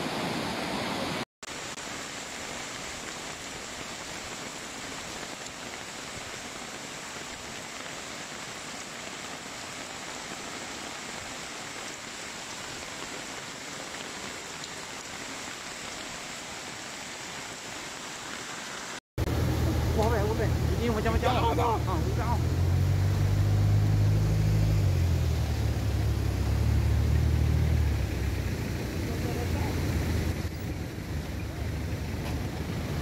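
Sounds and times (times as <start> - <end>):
floodwater rushing: 0.0 - 33.0
rain: 0.0 - 33.0.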